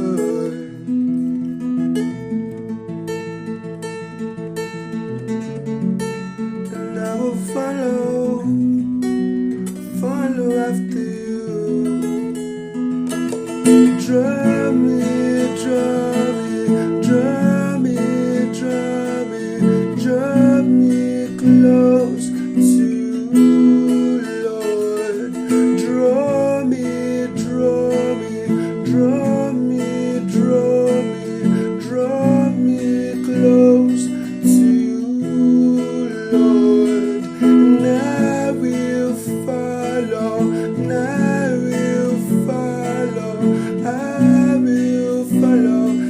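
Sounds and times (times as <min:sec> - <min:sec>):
acoustic guitar worship song: 0:00.0 - 0:46.0.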